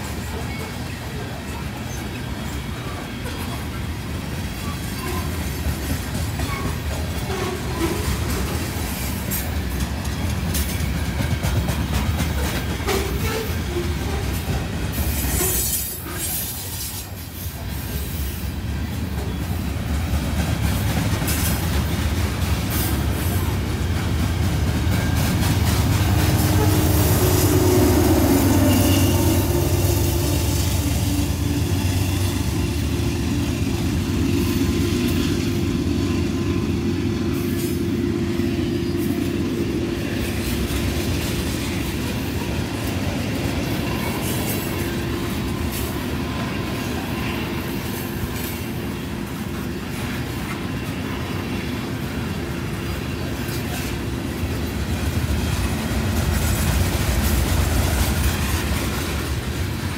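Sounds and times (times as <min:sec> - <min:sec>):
diesel locomotive engine tone: 0:00.0 - 0:59.9
freight train rumbling and clattering: 0:00.0 - 0:59.9.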